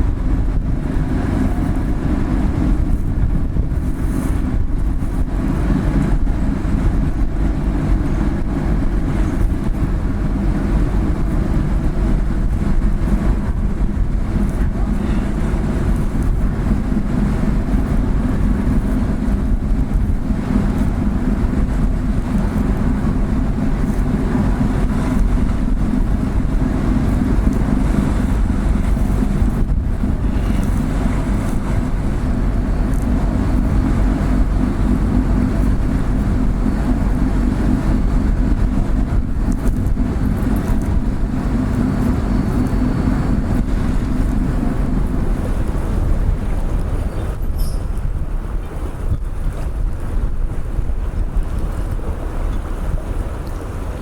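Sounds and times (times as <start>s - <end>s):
ship engines rumbling: 0.0s - 54.0s.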